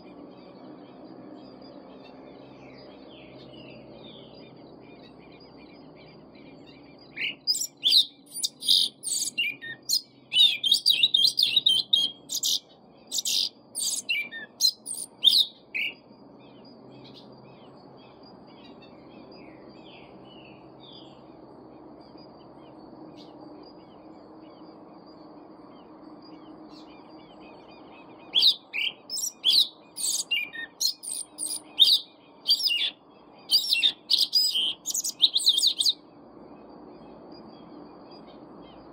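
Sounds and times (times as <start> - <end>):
steady low hum: 0.0 - 38.9
thrush singing high chirps: 0.0 - 38.9.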